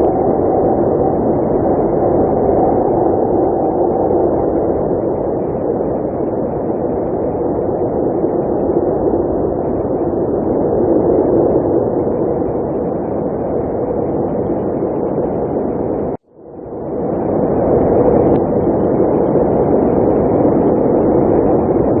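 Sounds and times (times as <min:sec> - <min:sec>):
blizzard wind blowing: 0:00.0 - 0:22.0.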